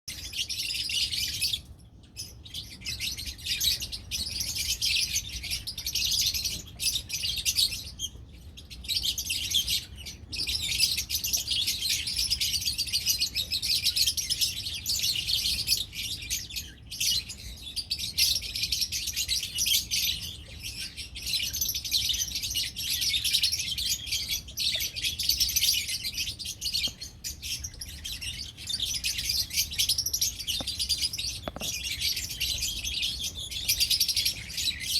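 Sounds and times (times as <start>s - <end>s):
lovebirds chirping: 0.1s - 34.9s.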